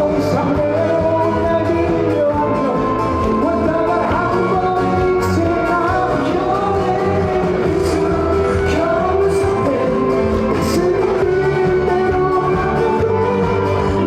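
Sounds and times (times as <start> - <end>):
backing track with steady beat: 0.0 - 14.0
man singing: 0.0 - 14.0.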